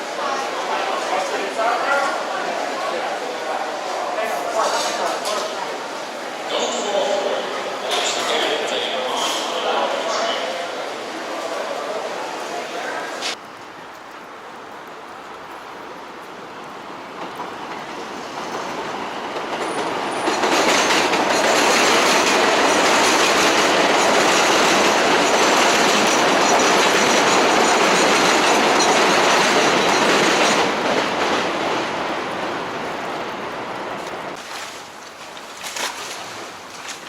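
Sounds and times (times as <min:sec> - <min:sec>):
subway train passing: 0:00.0 - 0:34.4.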